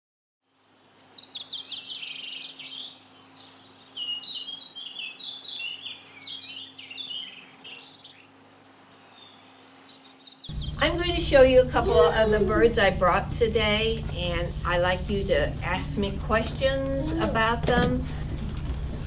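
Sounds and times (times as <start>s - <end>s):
small birds chirping: 0.5s - 19.0s
faint steady hum: 2.6s - 19.0s.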